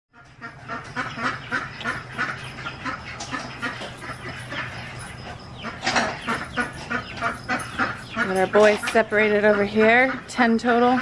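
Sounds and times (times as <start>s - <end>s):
ducks quacking: 0.2s - 11.0s.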